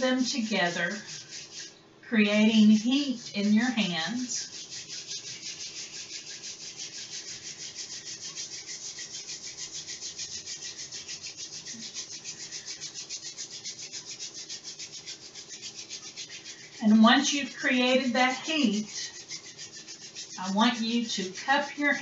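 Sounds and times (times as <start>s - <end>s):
hands rubbing together: 0.0s - 22.0s.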